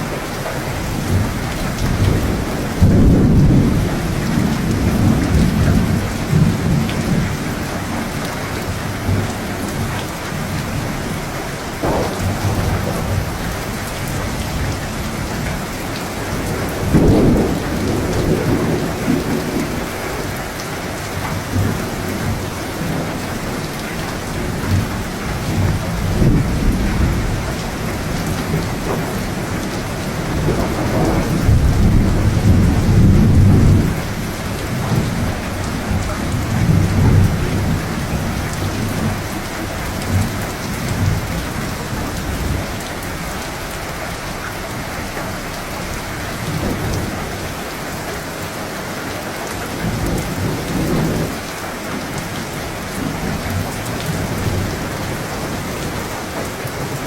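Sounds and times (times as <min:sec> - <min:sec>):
steady rain: 0:00.0 - 0:57.0
rolling thunder: 0:00.7 - 0:48.5, 0:49.6 - 0:57.0.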